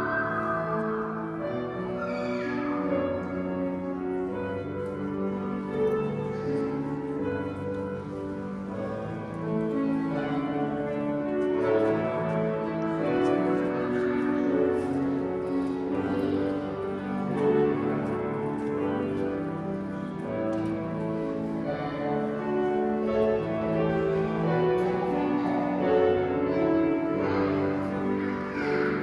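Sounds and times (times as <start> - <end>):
slow keyboard music with chords: 0.0 - 29.0.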